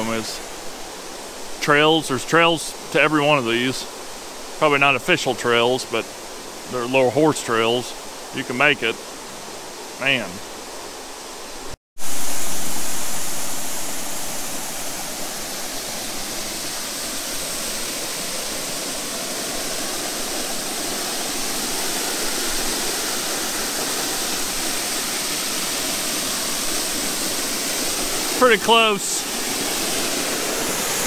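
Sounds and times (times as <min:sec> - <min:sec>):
small waterfall rushing: 0:00.0 - 0:31.0.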